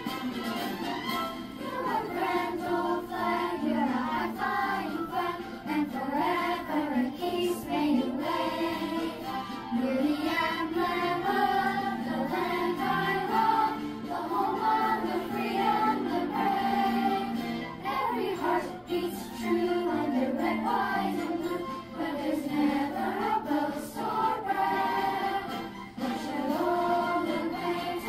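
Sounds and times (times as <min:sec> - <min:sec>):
instrumental accompaniment: 0:00.0 - 0:28.0
children singing: 0:01.5 - 0:28.0.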